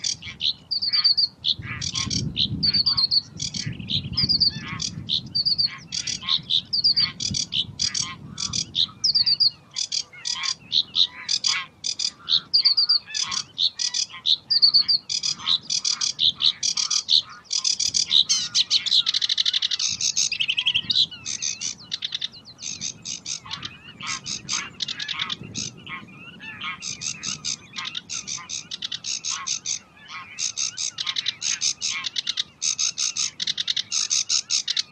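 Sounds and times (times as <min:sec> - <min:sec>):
warbler singing: 0:00.0 - 0:34.9.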